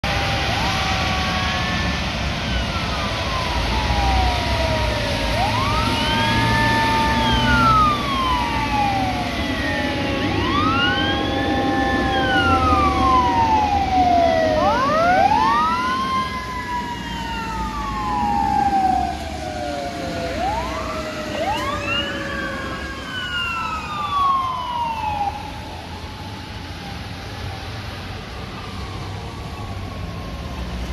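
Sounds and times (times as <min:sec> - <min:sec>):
sirens wailing: 0:00.0 - 0:30.9
traffic on wet road: 0:00.0 - 0:30.9.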